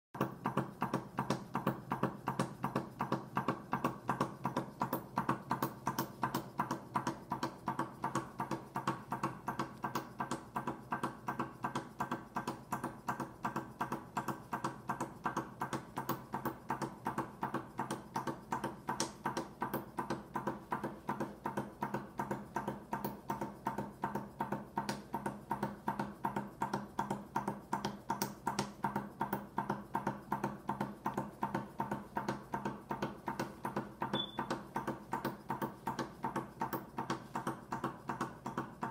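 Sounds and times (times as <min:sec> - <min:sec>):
engine linkage clacking rhythmically: 0:00.2 - 0:38.9.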